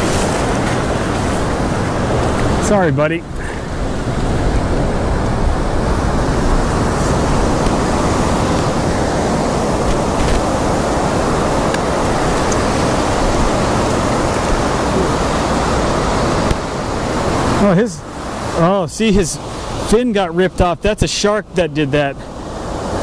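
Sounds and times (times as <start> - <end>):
surf washing over sand: 0.0 - 23.0.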